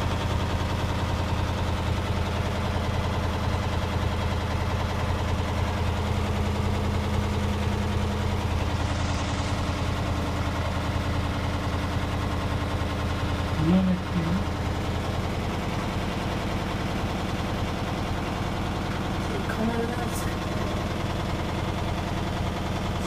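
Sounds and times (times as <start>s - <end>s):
washing machine humming: 0.0s - 23.0s
fast continuous rattle: 0.3s - 23.0s.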